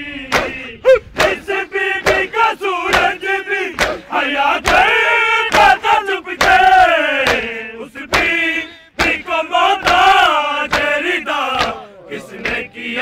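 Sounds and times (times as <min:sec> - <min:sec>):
men chanting a lament: 0:00.0 - 0:13.0
men slapping their chests: 0:00.3 - 0:12.6.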